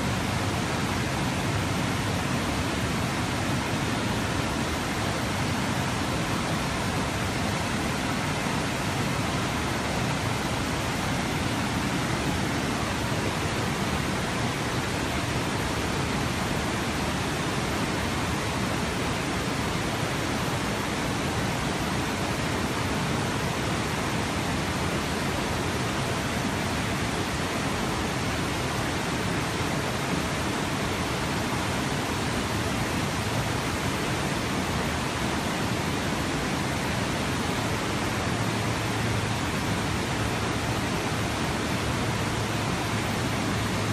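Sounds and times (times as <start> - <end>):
river water rushing over weir: 0.0 - 43.9.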